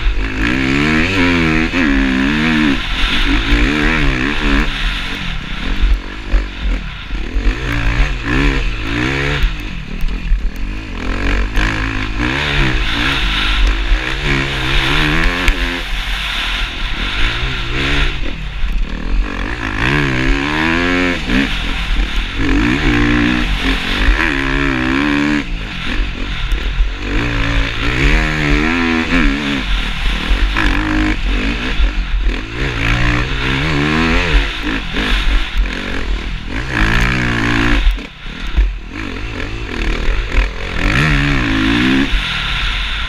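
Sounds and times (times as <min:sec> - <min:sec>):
dirt bike engine revving: 0:00.0 - 0:43.0
wind rumble on microphone: 0:00.0 - 0:43.0.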